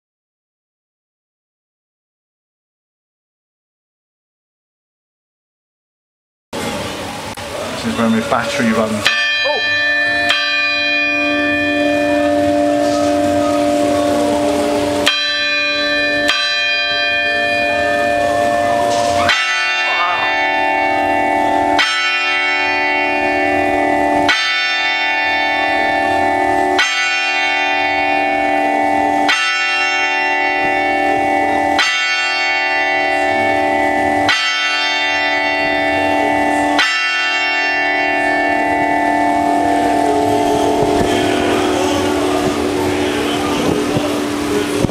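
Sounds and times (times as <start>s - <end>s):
clock tower bells striking: 7.3s - 44.9s.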